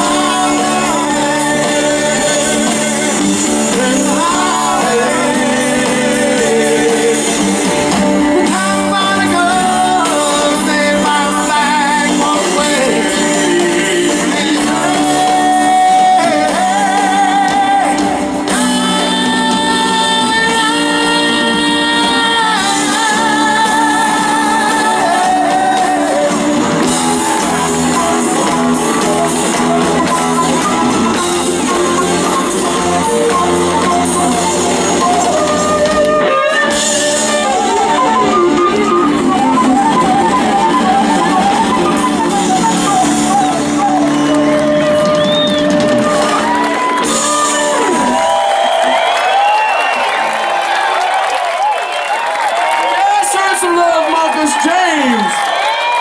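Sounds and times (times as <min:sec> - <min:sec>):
person singing: 0:00.0 - 0:48.8
rock band playing live: 0:00.0 - 0:56.0.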